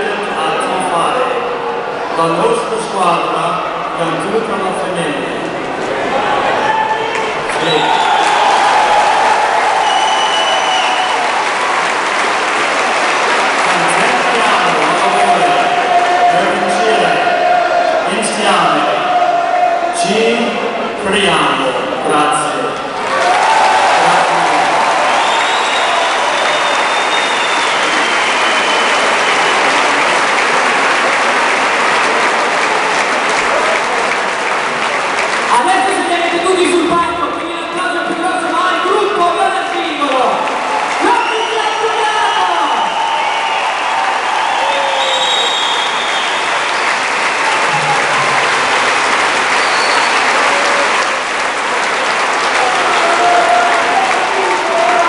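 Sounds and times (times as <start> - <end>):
crowd applauding: 5.4 - 19.9, 22.4 - 55.0.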